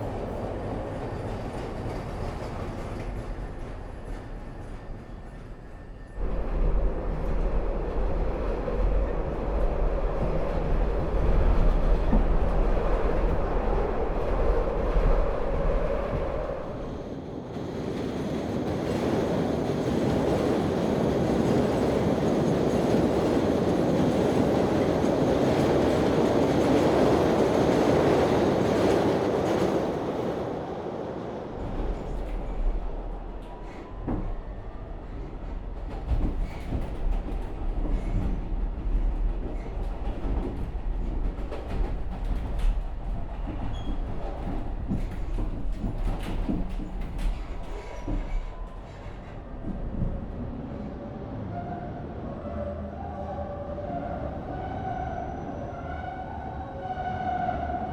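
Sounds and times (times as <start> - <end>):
train passing by clattering: 0.0 - 52.7
train rumbling and rattling onboard: 0.0 - 57.9.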